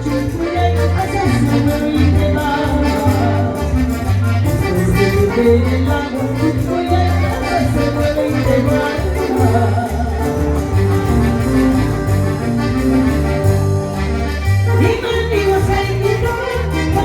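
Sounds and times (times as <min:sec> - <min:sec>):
latin dance music: 0:00.0 - 0:17.0.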